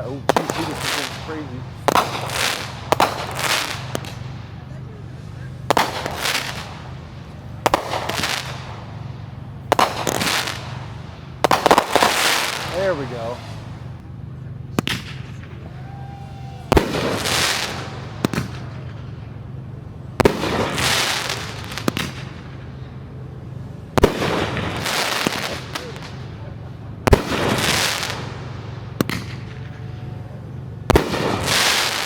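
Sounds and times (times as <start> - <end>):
fireworks bursting with crackling: 0.0 - 32.0.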